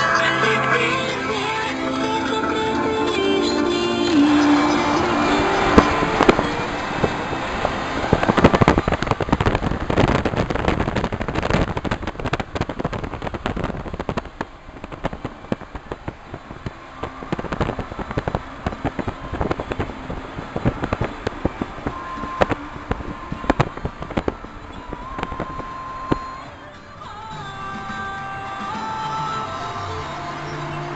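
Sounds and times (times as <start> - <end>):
car road noise: 0.0 - 30.9
crackling and popping: 0.0 - 30.9.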